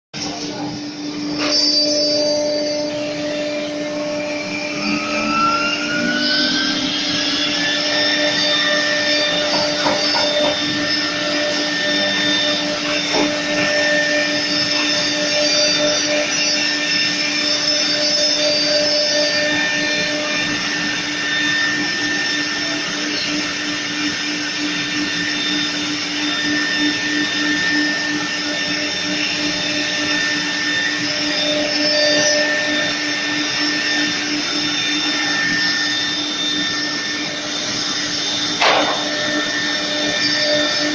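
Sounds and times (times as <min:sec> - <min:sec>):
constant hum: 0:00.2 - 0:40.9
router spindle whine: 0:00.2 - 0:40.9.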